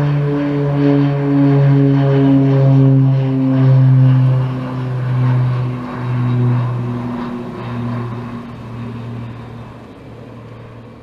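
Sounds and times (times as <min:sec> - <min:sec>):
turboprop aircraft drone: 0:00.0 - 0:11.0.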